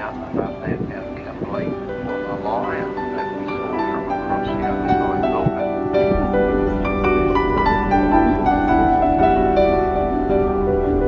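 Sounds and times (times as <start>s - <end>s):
piano background music: 0.0s - 11.0s.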